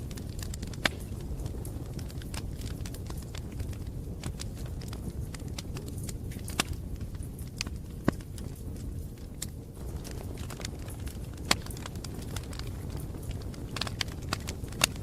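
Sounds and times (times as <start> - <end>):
fire crackling and popping: 0.0 - 15.0
rumble of flames: 0.0 - 15.0.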